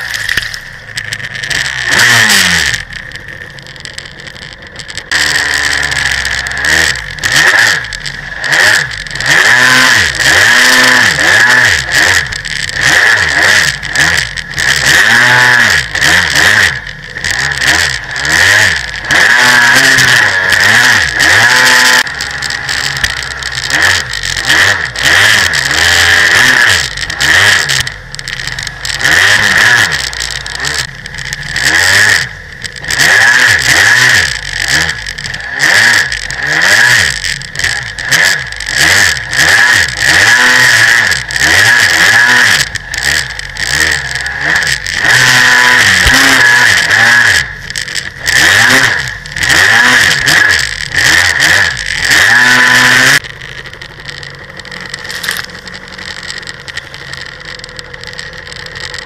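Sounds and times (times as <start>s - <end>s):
jet ski engine revving: 0.0s - 59.0s.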